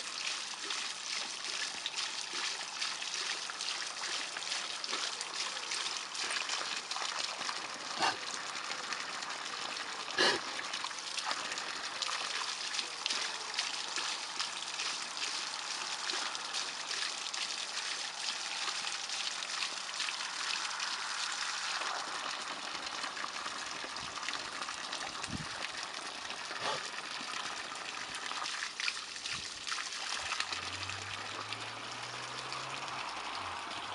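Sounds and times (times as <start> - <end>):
sharp water splashes: 0.0 - 33.9
water gushing from pipe: 0.0 - 33.9.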